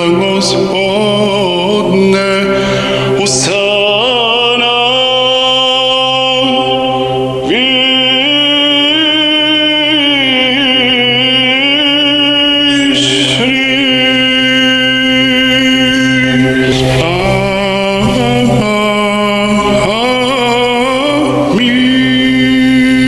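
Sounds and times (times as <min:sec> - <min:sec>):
low vocal drone: 0:00.0 - 0:23.0
person chanting held vowels: 0:00.0 - 0:23.0.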